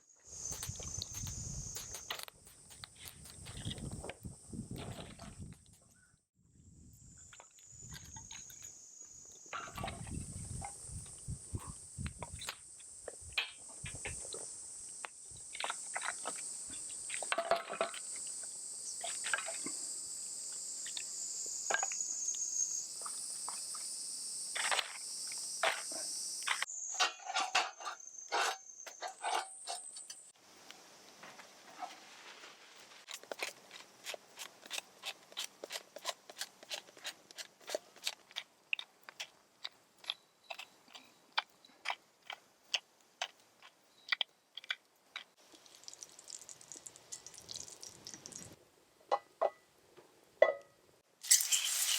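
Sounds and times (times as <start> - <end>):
insects chirring: 0.0 - 32.4, 33.0 - 48.6, 51.2 - 51.9.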